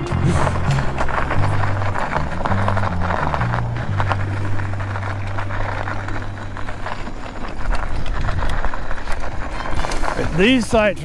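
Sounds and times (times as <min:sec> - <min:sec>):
low hum: 0:00.0 - 0:10.8
tyres crunching on gravel: 0:00.0 - 0:11.0.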